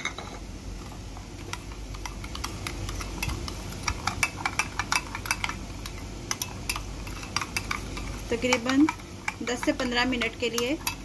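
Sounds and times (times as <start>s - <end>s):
metal spoon clinking in bowl: 2.0s - 11.0s.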